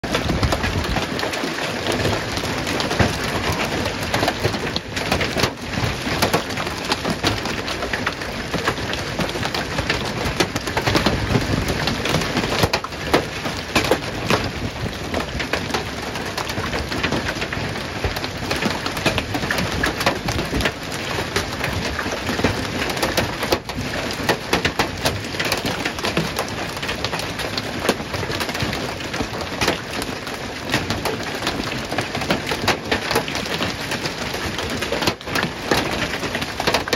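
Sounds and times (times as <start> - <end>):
hail clattering on cars and gravel: 0.0 - 36.9.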